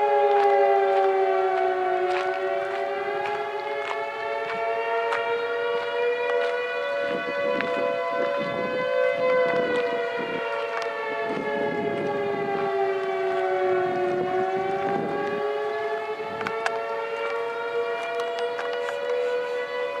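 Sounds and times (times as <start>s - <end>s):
warning sirens: 0.0s - 20.0s
wind buffeting microphone: 0.0s - 20.0s.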